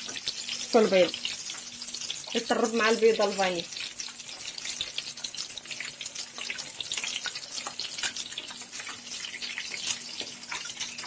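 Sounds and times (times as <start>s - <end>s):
bread frying in hot oil: 0.0s - 11.0s.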